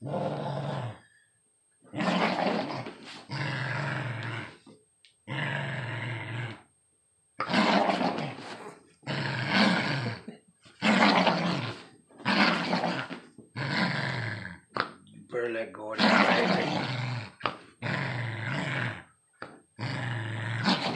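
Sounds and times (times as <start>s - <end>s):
puppy growling: 0.0s - 1.2s, 1.9s - 6.7s, 7.4s - 15.2s, 15.8s - 20.9s.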